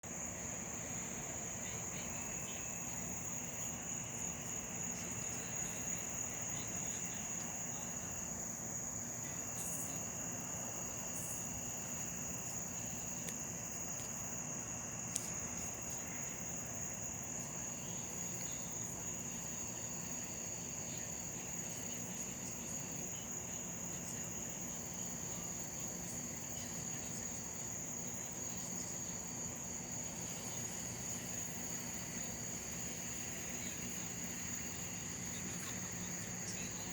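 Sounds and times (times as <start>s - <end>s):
crickets chirring: 0.0s - 36.9s
lower-pitched insect calls: 0.1s - 36.9s.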